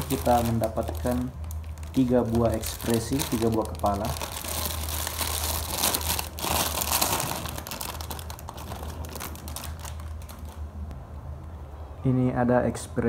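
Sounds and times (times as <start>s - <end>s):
plastic bags crinkling: 0.0s - 10.8s.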